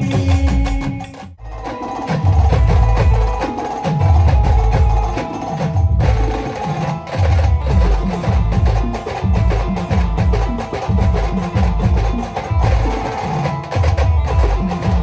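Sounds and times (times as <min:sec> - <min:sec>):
band playing folk-pop: 0:00.0 - 0:15.0
clicking percussion: 0:00.0 - 0:15.0
heavy drum beats: 0:00.0 - 0:15.0
sustained melody line: 0:01.4 - 0:15.0.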